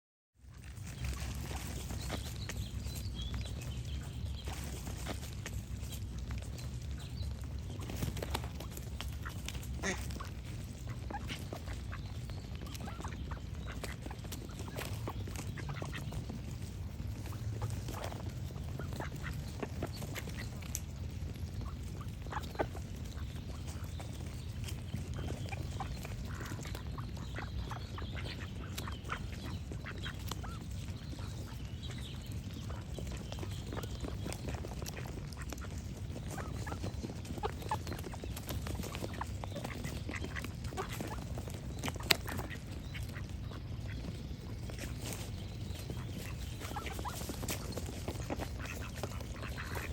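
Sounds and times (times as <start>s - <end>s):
birds singing faintly: 0.4s - 49.9s
steady low rumble: 0.4s - 49.9s
ducks quacking: 0.6s - 49.9s.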